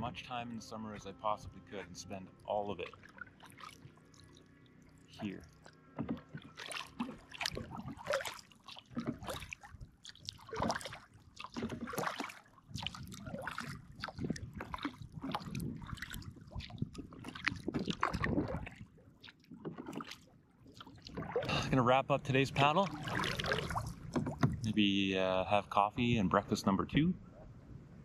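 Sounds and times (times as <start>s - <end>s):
kayak paddle splashing water: 0.0s - 25.6s.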